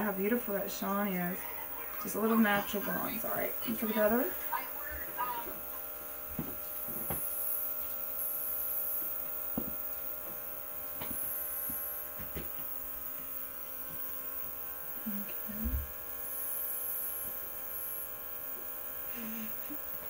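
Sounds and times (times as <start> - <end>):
small compressor humming: 0.0 - 20.0.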